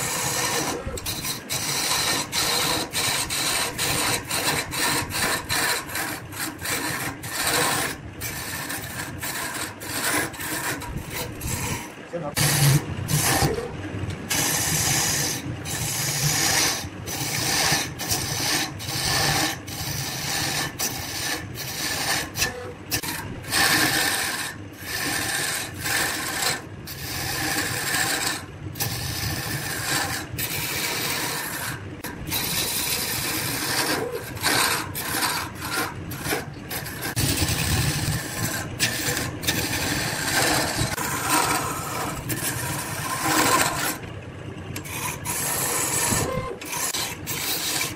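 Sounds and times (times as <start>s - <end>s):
chisel scraping spinning wood: 0.0s - 47.9s.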